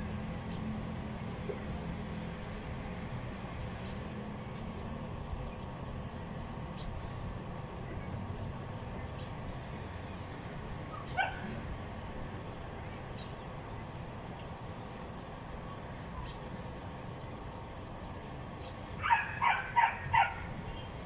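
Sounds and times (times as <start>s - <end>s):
outdoor background hum: 0.0s - 21.0s.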